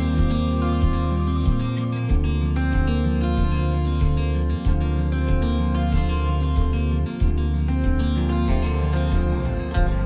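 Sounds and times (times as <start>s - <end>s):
low bass: 0.0s - 10.0s
plucked acoustic guitar: 0.0s - 10.0s.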